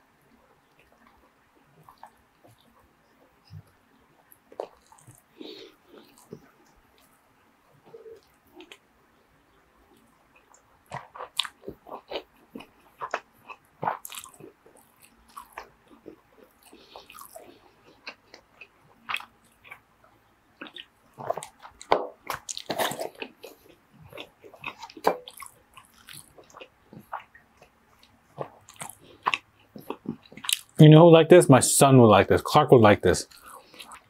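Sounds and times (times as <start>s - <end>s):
chewing smacks: 0.7s - 8.8s, 9.9s - 19.9s, 20.6s - 30.8s, 33.3s - 34.0s.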